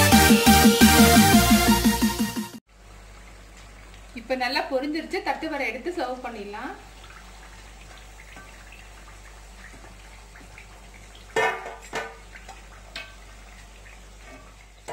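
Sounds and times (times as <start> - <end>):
food sizzling in hot oil: 2.7 - 14.9.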